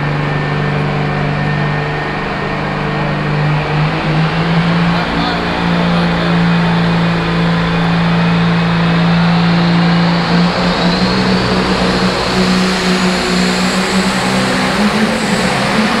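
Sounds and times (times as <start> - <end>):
faint rising whine: 0.0 - 16.0
tractor engine revving hard: 0.0 - 16.0.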